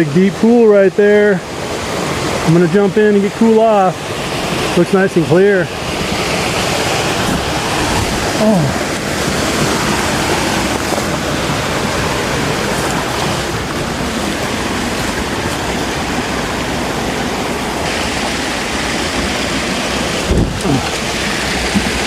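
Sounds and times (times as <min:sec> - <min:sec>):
water rushing into a pool: 0:00.0 - 0:22.0.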